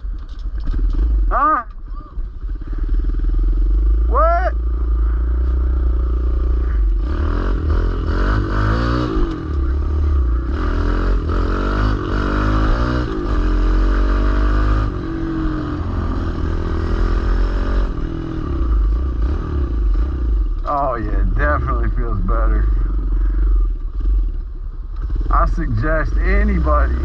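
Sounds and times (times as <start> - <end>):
motorbike engine revving: 0.0 - 27.0.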